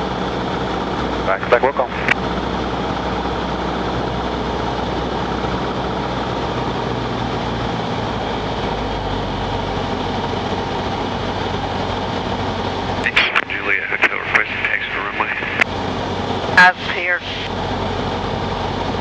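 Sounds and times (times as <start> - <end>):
propeller aircraft engine rumble: 0.0 - 19.0.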